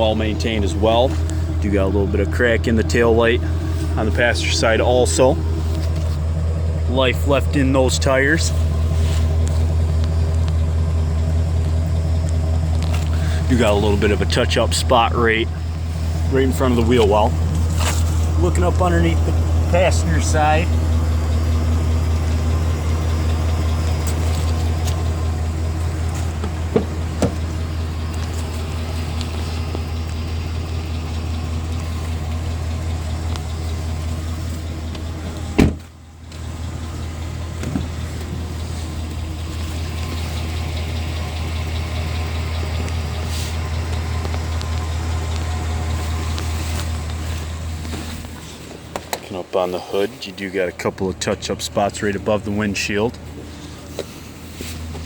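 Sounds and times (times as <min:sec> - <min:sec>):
pickup truck engine idling: 0:00.0 - 0:55.0.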